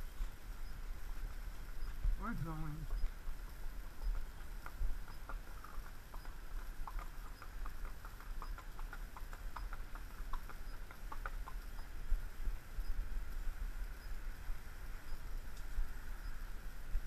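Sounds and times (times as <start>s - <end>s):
horse hooves on pavement: 0.0s - 15.9s.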